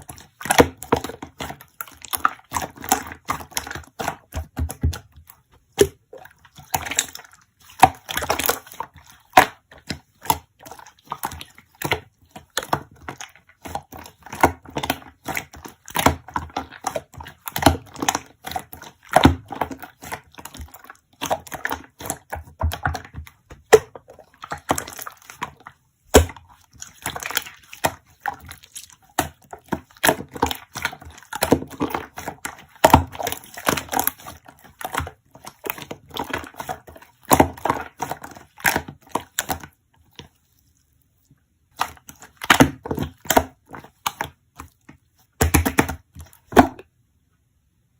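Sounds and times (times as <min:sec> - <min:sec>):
slime squelching with wet clicks: 0:00.0 - 0:47.0.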